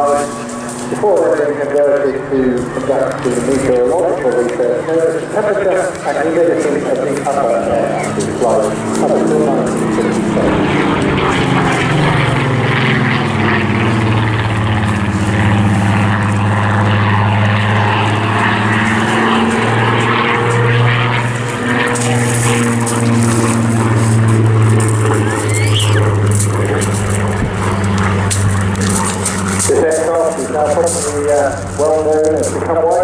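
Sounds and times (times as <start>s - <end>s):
propeller aircraft engine droning: 0.0s - 33.0s.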